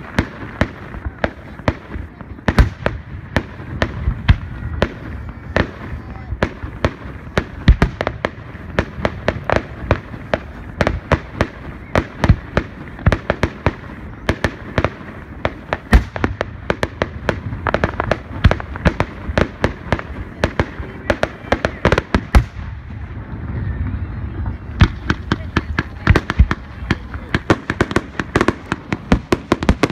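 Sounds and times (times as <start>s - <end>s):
fireworks bangs and cracks: 0.0s - 29.9s.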